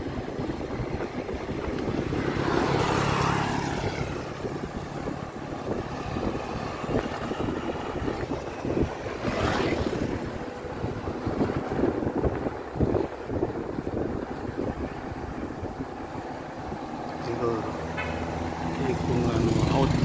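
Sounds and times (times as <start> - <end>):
motorcycles passing: 0.0 - 20.0
vehicle engine hum passing: 0.0 - 20.0
wind buffeting microphone: 0.0 - 20.0.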